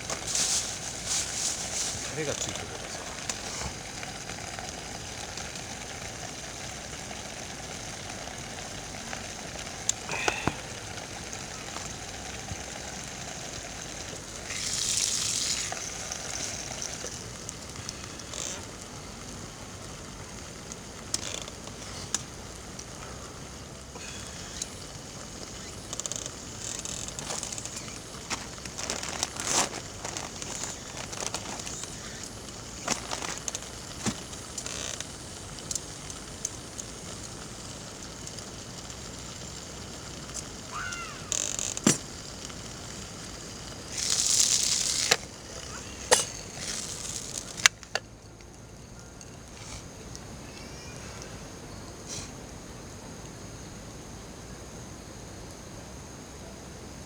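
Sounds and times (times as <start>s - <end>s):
fire hissing flare-up: 0.0s - 55.7s
campfire crackling: 0.0s - 56.9s.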